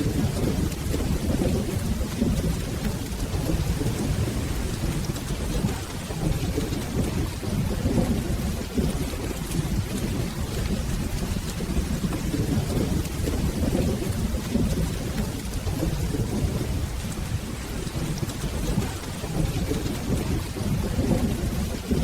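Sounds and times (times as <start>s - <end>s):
rolling thunder rumble: 0.0s - 22.0s
steady rain: 0.0s - 22.0s.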